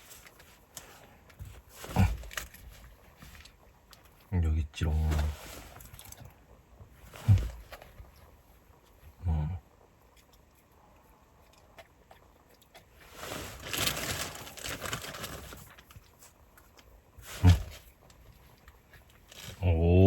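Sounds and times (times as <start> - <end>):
dog sniffing and snuffling: 0.0 - 4.3, 4.9 - 9.2, 10.1 - 19.8.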